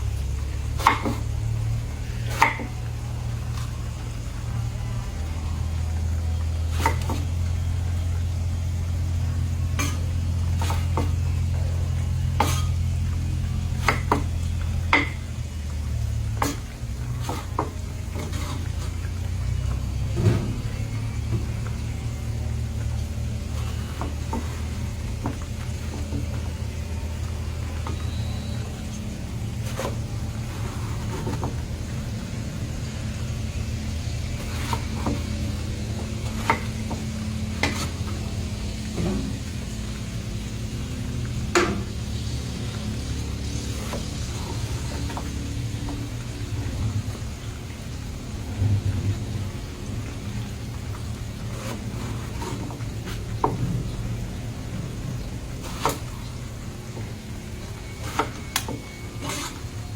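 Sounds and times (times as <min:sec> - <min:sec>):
low steady rumble: 0:00.0 - 0:59.9
steady low hum: 0:00.0 - 0:59.9
utensil scraping a pan: 0:00.6 - 0:04.2, 0:05.2 - 0:40.3, 0:41.3 - 0:47.4, 0:48.4 - 0:53.6, 0:57.6 - 0:59.8.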